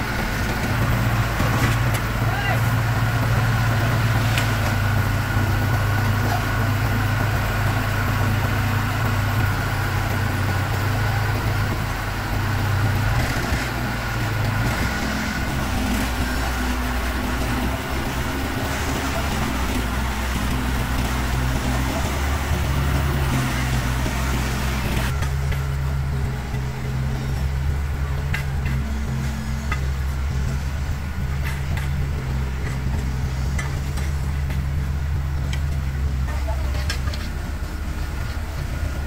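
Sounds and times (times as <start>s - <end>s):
heavy diesel engines running: 0.0s - 39.0s.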